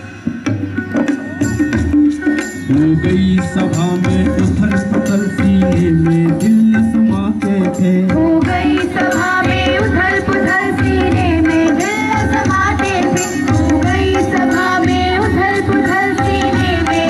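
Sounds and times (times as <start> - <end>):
music with drums and melody: 0.0 - 17.0.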